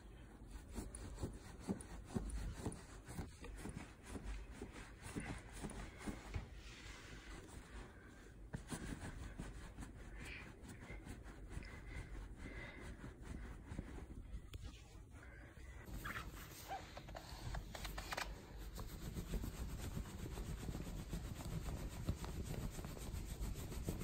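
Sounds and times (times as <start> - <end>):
towel rubbing wet fur: 0.0 - 24.0.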